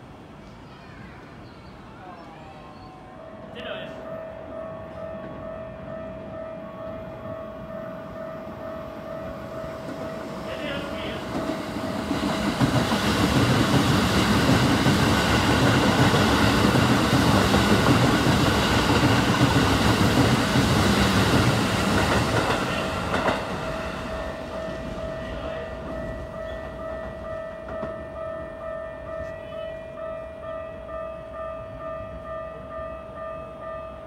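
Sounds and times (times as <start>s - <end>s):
electric train rumbling past: 0.0s - 34.0s.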